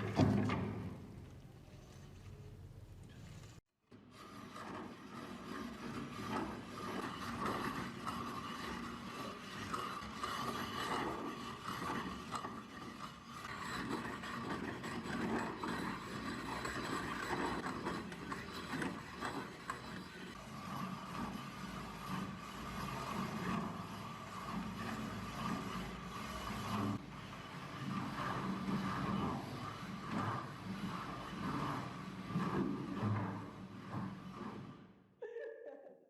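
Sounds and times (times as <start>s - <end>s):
ice crusher grinding and clicking: 3.0s - 34.9s.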